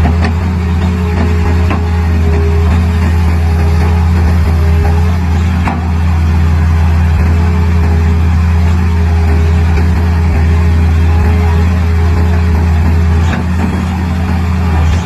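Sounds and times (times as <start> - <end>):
excavator diesel engine humming: 0.0 - 15.0.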